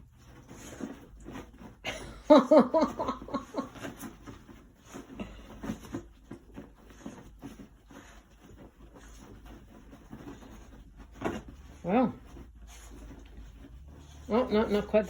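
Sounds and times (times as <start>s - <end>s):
dog pawing on bedding: 0.0s - 15.0s.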